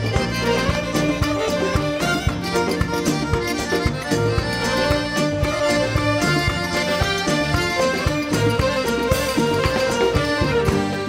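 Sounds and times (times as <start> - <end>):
drum beat: 0.0 - 11.0
held melody line: 0.0 - 11.0.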